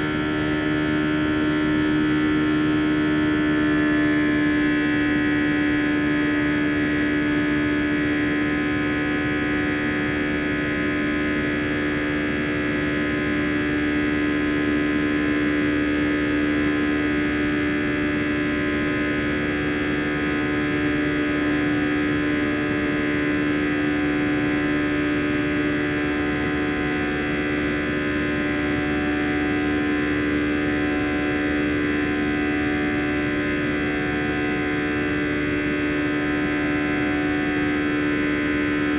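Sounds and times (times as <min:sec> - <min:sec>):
jet engines droning in cabin: 0:00.0 - 0:38.9.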